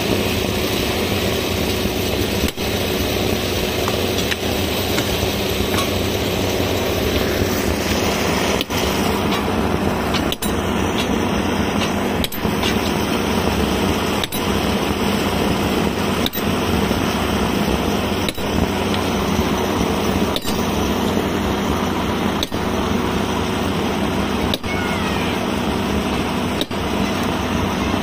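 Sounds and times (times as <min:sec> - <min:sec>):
gas torch flame roaring: 0:00.0 - 0:28.0.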